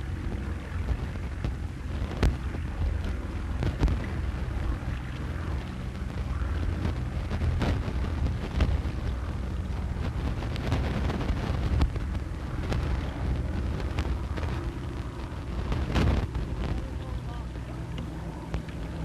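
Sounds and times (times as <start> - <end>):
motorboat engine droning: 0.0 - 19.0
wind and water rushing: 0.0 - 19.0
sharp clicks and crackles: 0.2 - 19.0.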